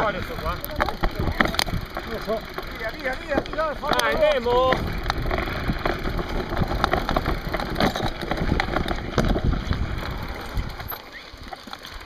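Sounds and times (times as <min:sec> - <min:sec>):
bike rattling knocks: 0:00.0 - 0:12.0
gravel crunching under bike tyres: 0:00.0 - 0:12.0.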